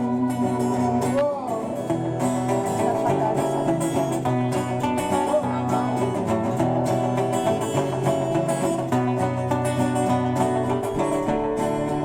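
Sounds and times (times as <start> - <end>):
acoustic guitar and plucked strings: 0.0 - 12.0.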